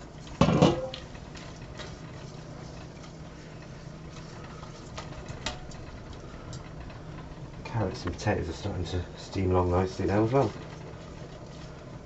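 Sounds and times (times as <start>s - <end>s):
pans simmering: 0.0s - 12.0s.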